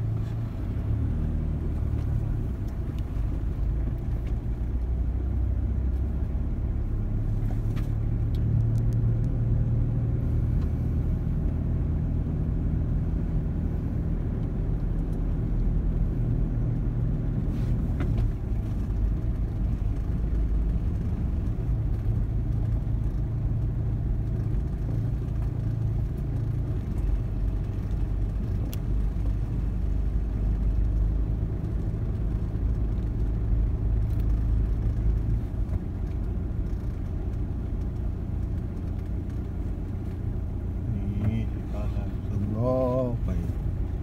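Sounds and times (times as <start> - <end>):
road vehicle rumbling: 0.0 - 44.0.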